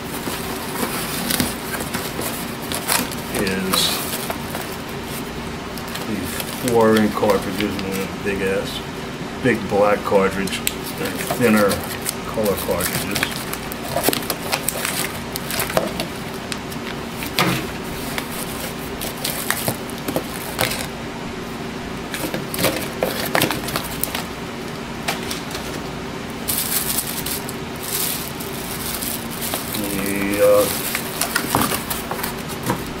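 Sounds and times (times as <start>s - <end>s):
plastic bags crinkling: 0.0s - 8.1s, 10.7s - 21.0s, 22.1s - 24.4s, 25.0s - 33.0s.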